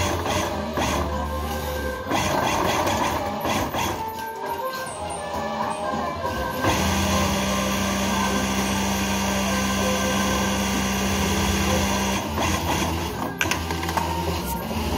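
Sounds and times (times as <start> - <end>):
sewing machine stitching: 0.0 - 14.9.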